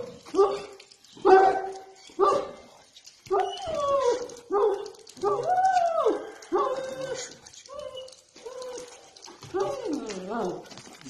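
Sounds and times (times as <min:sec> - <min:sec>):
large dog barking and howling: 0:00.0 - 0:10.9.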